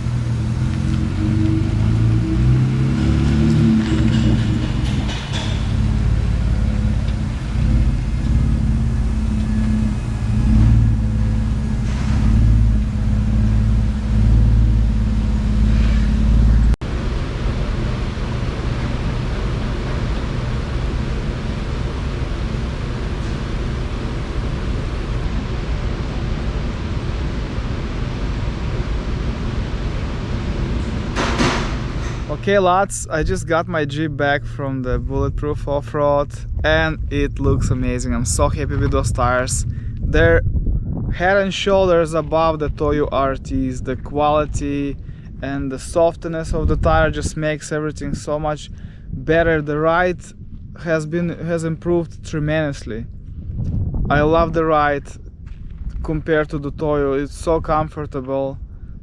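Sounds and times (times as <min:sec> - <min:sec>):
engine rumbling: 0:00.0 - 0:59.0.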